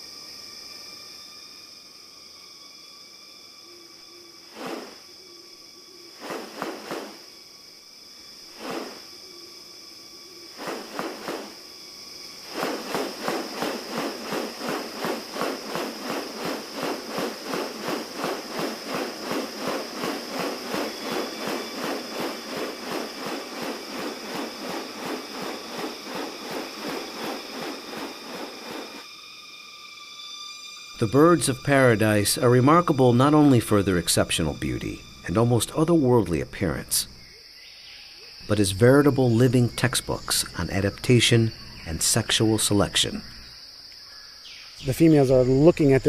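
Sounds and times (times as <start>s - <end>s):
insects droning: 0.0s - 46.0s
insect rasping strokes: 2.7s - 37.3s, 38.4s - 44.1s.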